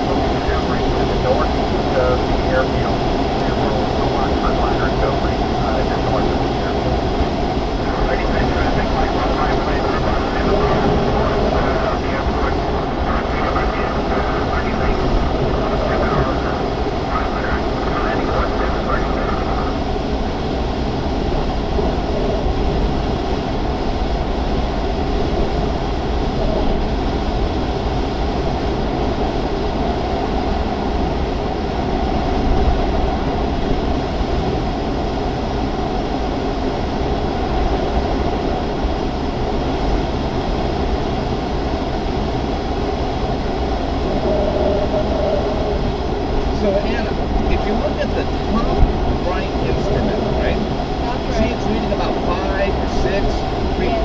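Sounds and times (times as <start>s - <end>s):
air rushing over glider cockpit: 0.0s - 54.0s.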